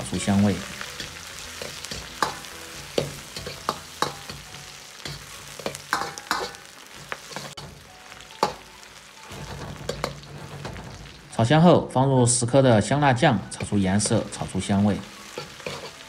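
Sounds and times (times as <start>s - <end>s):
meat sizzling in oil: 0.0s - 11.4s, 12.6s - 16.0s
ladle clacking and scraping wok: 0.0s - 11.6s, 13.2s - 16.0s.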